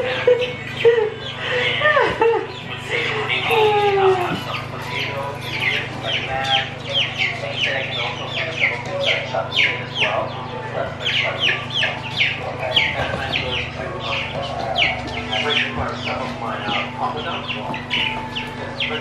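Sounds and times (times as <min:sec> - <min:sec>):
chicks peeping and cheeping: 0:00.0 - 0:19.0.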